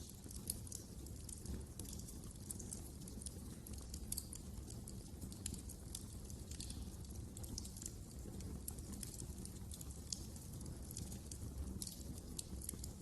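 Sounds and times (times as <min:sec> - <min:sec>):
low rumble of flames: 0:00.0 - 0:13.0
wood fire crackling: 0:00.0 - 0:13.0.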